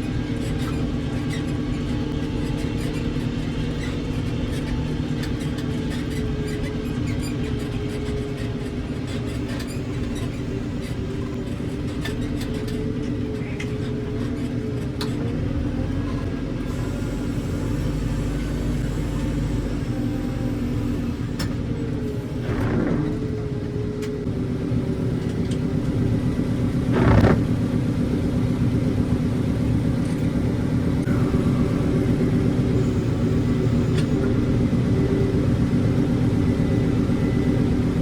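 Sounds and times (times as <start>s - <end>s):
diesel engine running: 0.0s - 38.0s
engine knocks: 0.0s - 38.0s.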